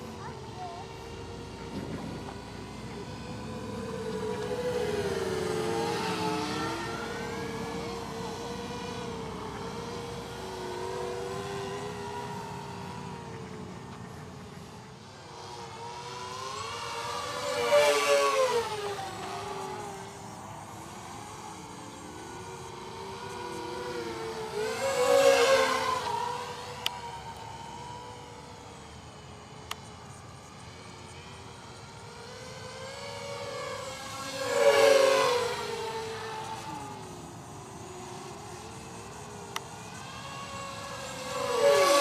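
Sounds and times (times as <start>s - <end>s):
quadcopter motors whining: 0.0s - 42.0s.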